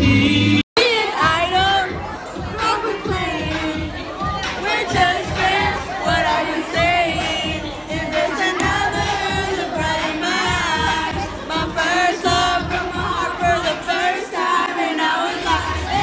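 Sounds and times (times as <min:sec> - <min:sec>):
crowd of voices: 0:00.0 - 0:16.0
loud music with bass beat: 0:00.0 - 0:16.0.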